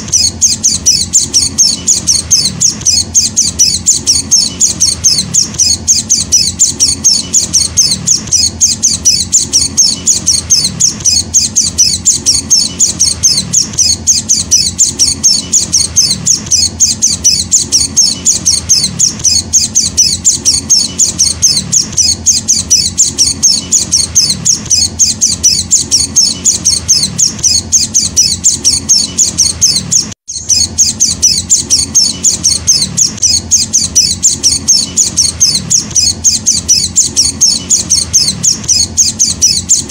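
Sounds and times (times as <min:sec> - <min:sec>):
bird chick chirping: 0:00.0 - 0:39.9.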